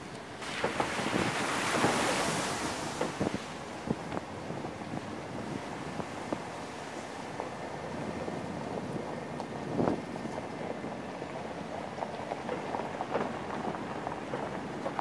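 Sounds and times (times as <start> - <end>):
wind rushing over microphone: 0.5 - 15.0.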